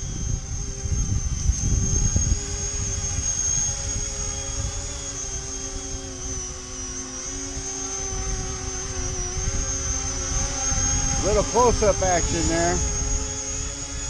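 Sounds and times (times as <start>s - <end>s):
electric motors and propellers whining: 0.0s - 14.0s
wind rumbling on microphone: 0.0s - 14.0s.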